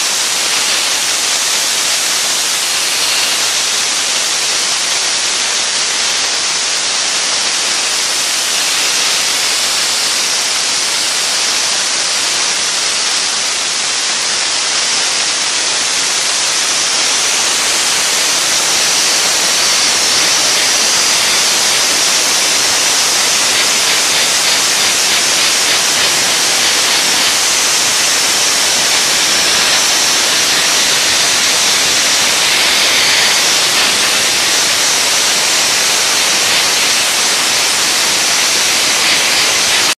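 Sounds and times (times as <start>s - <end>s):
dry ice blaster hissing: 0.0s - 40.0s.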